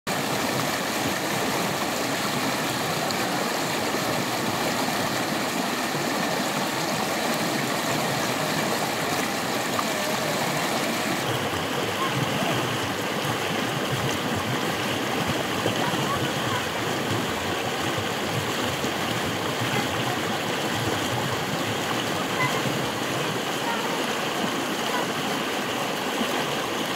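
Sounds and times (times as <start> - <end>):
stream rushing over rocks: 0.1 - 26.9.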